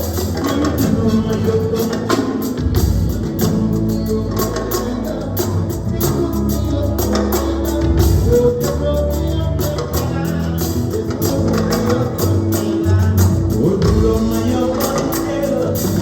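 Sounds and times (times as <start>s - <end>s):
bass and keyboard notes: 0.0s - 16.0s
drums beating: 0.0s - 16.0s
guitar: 0.0s - 16.0s.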